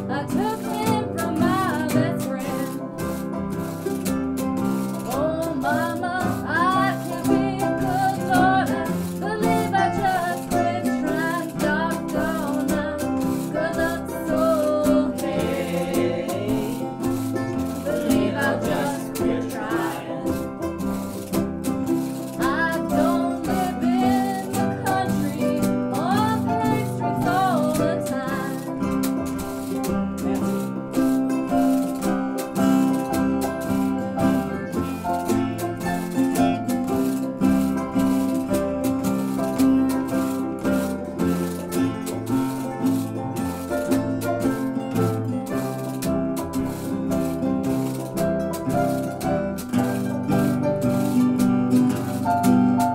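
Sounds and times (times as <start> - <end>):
sliding melody line: 0.0 - 52.9
strummed rhythm: 0.0 - 52.9.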